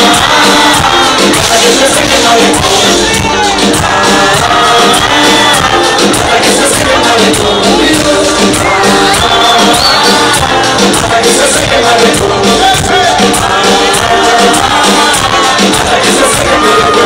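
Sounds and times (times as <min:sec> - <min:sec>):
person singing: 0:00.0 - 0:17.0
repeating reggaeton beat: 0:00.0 - 0:17.0.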